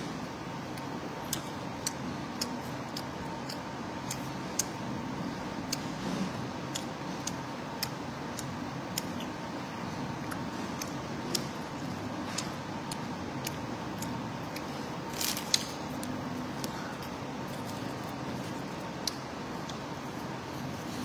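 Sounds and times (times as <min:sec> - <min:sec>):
background hum: 0:00.0 - 0:21.0
person chewing food: 0:00.0 - 0:21.0.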